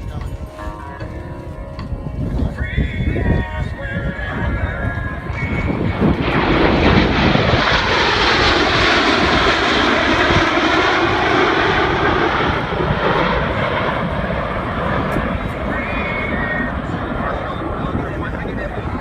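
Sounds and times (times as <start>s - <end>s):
jets passing overhead: 0.0s - 19.0s.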